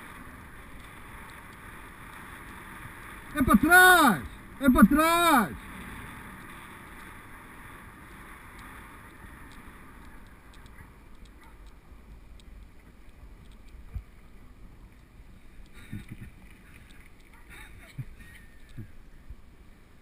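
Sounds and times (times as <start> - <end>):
bike tyres rumbling on pavement: 0.0 - 17.5.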